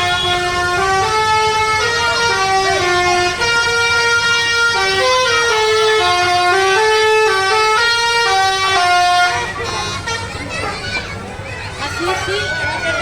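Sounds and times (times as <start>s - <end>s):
multi-tone bus horn melody: 0.0s - 13.0s.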